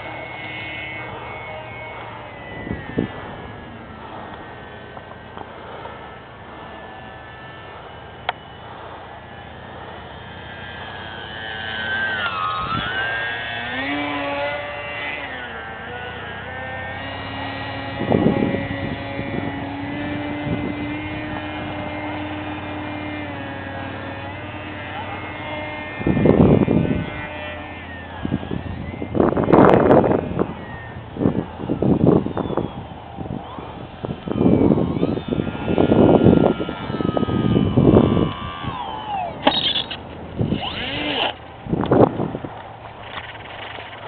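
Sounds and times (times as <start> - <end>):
model airplane motor whining: 0.0 - 44.0.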